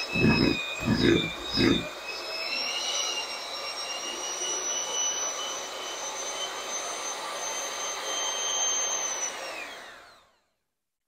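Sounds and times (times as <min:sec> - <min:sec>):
electric hand mixer whine: 0:00.0 - 0:10.3.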